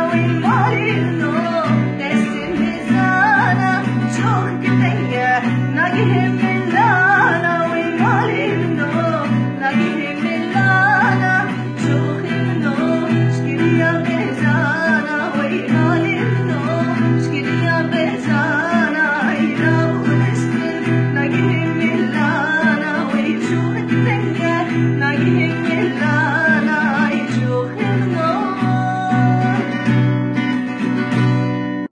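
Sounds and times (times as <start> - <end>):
person singing ornamented melody: 0.0 - 30.1
plucked guitar: 0.0 - 31.9.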